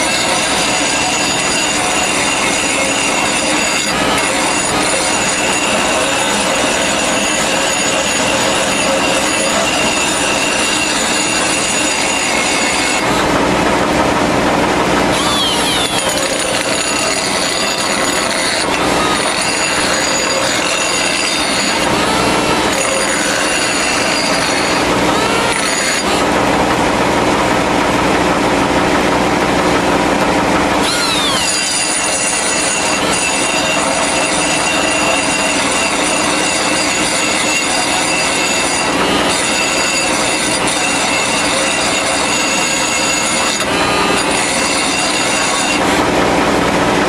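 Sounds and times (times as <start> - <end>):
air die grinder whining: 0.0 - 47.0.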